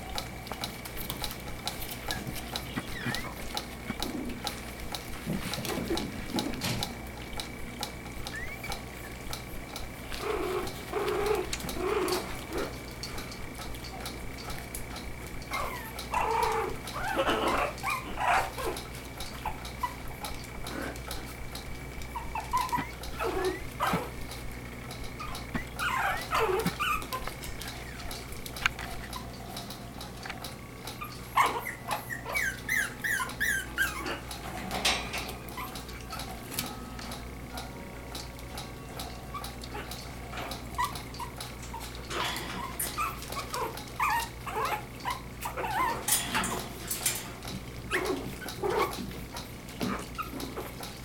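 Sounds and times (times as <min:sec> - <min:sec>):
puppies yipping and whimpering: 0:00.0 - 0:37.8, 0:38.5 - 0:51.0.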